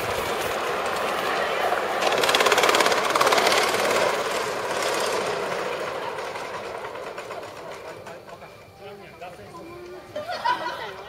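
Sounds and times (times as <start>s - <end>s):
miniature steam locomotive running: 0.0s - 11.0s.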